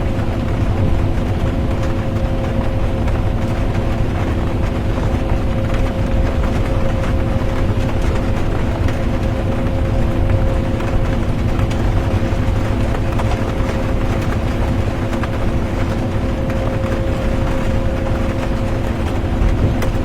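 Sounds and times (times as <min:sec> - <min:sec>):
bus engine and road rumble: 0:00.0 - 0:20.0
low drivetrain hum: 0:00.0 - 0:20.0
rain ticking on bus: 0:00.0 - 0:20.0.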